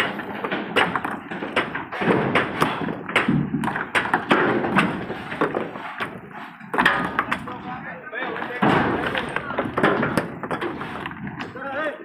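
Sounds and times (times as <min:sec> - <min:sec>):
stones knocking and thudding: 0:00.0 - 0:11.7.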